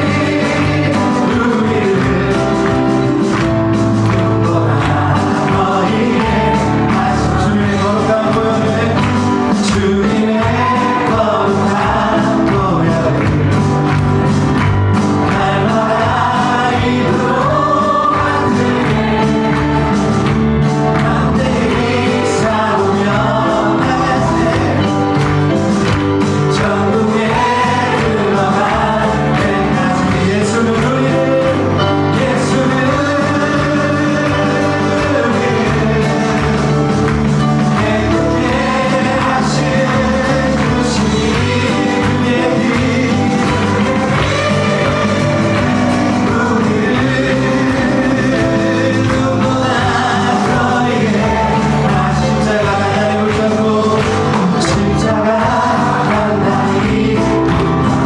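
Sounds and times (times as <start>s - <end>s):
band accompanying: 0.0s - 58.0s
group singing worship song: 0.0s - 58.0s.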